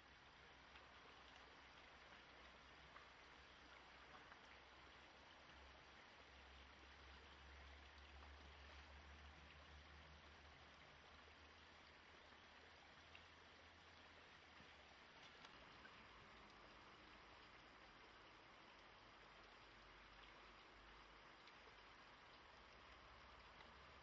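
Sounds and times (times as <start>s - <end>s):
faint hiss: 0.0s - 24.0s
faint ticks: 0.0s - 24.0s.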